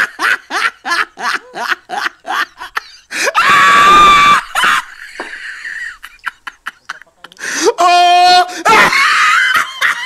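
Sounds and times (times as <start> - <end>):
person laughing: 0.0 - 7.5, 8.6 - 10.0.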